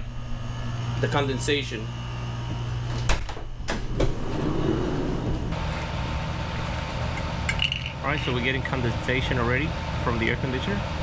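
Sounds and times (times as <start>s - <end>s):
air conditioner condenser humming: 0.0s - 11.0s.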